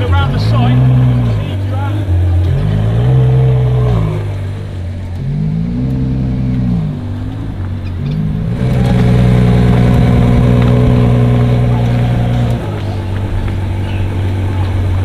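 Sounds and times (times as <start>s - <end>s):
car engine idling: 0.0s - 15.0s
sports car engine revving: 0.0s - 15.0s.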